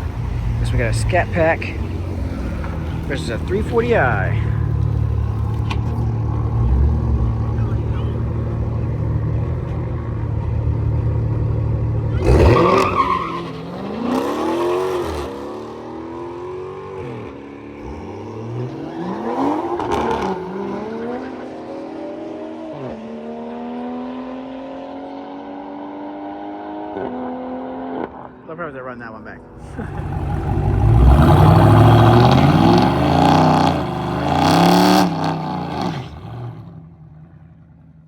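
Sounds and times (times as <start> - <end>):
car engines rumbling and accelerating: 0.0 - 38.0.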